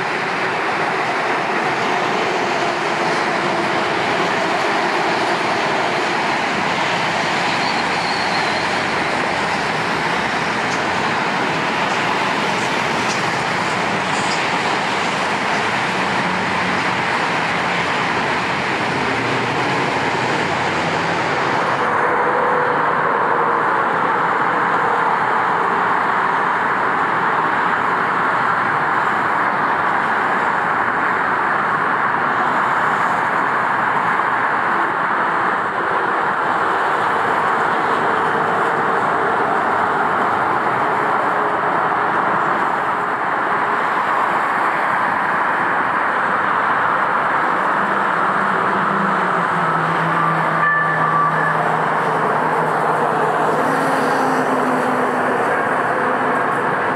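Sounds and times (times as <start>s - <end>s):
freeway traffic noise: 0.0s - 56.9s
light rail train running: 0.0s - 56.9s.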